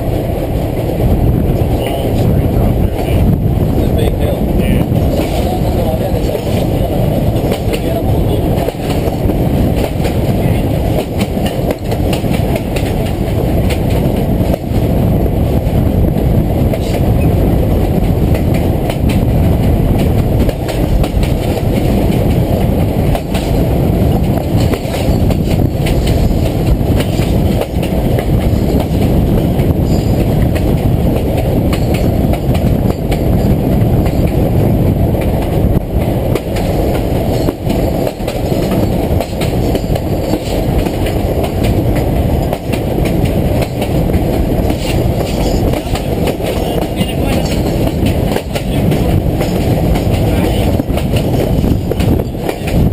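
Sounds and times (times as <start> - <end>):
train rumbling along track: 0.0 - 52.9.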